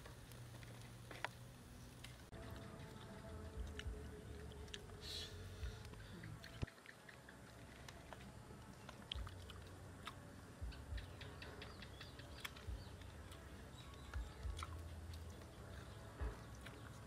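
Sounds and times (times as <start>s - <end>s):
chewing clicks and smacks: 2.0s - 5.0s, 5.8s - 17.0s.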